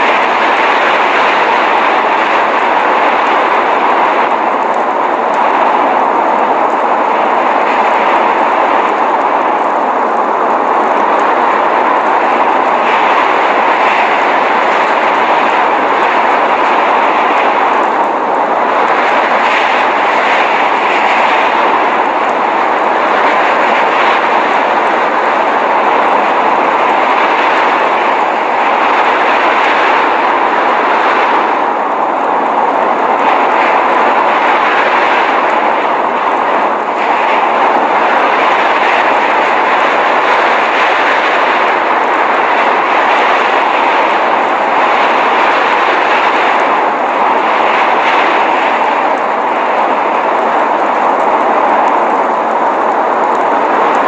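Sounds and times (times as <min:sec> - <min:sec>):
blizzard wind rushing: 0:00.0 - 0:54.0.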